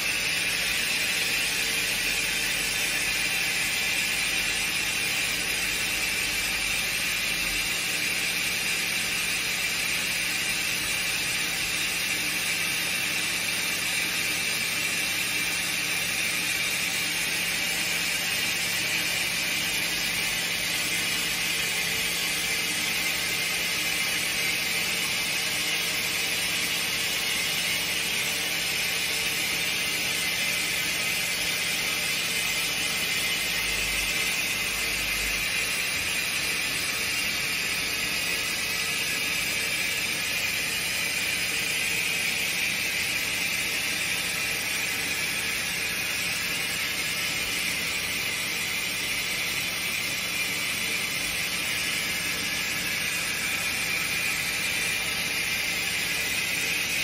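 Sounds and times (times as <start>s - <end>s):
lathe machine hiss and hum: 0.0s - 57.0s.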